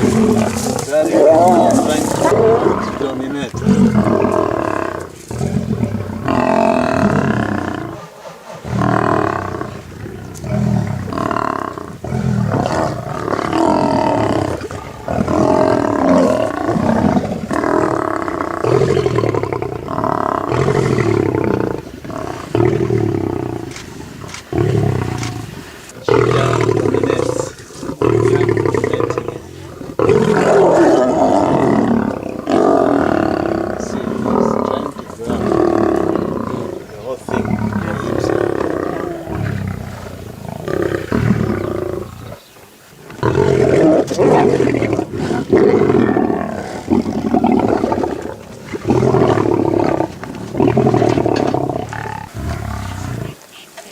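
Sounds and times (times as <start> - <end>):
lions roaring and growling: 0.0 - 53.6.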